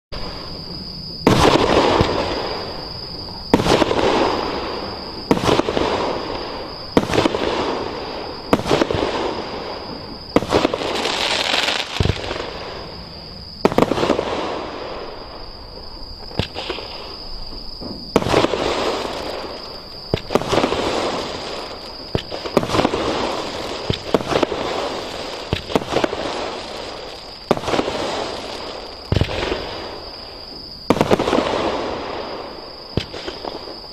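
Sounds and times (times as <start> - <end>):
crackling sparks: 0.2 - 33.9
firework bangs: 0.2 - 33.9.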